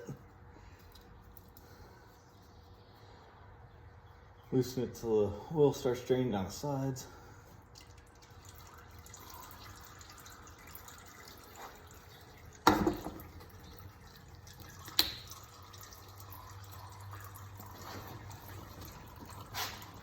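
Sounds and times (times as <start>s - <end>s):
oil trickling and dripping: 0.0s - 20.0s.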